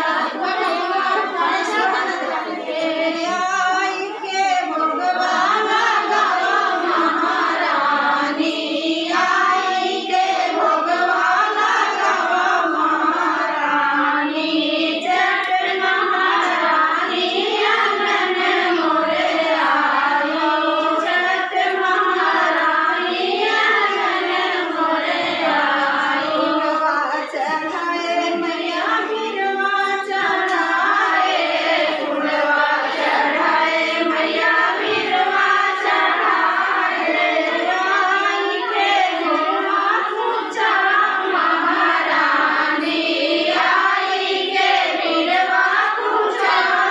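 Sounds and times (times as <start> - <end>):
women singing folk song: 0.0 - 46.9.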